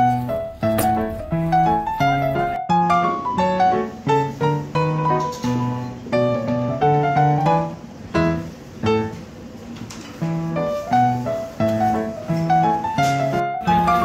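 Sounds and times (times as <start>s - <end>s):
piano music: 0.0s - 9.6s, 10.2s - 14.0s.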